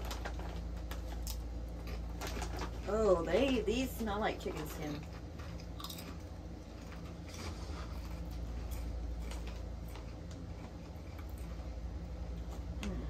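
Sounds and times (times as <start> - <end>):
chips being crunched and chewed: 0.0 - 12.8
steady low hum: 0.0 - 13.0.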